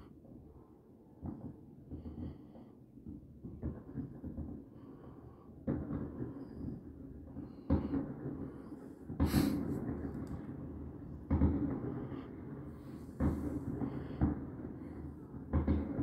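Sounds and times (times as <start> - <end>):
distant fireworks booming: 1.1 - 16.0.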